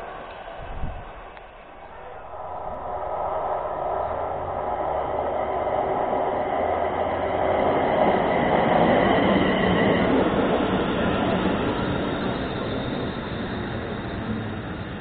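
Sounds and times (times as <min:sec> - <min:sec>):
electric train running in: 0:00.0 - 0:15.0.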